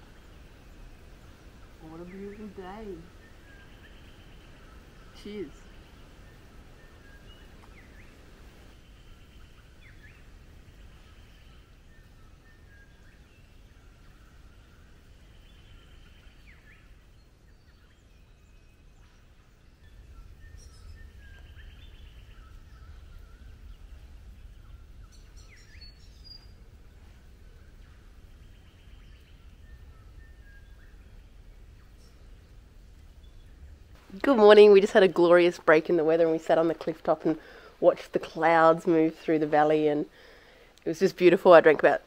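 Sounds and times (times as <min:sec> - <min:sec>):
steady low rumble: 0:00.0 - 0:39.6
wild birds chirping and whistling: 0:00.0 - 0:42.0.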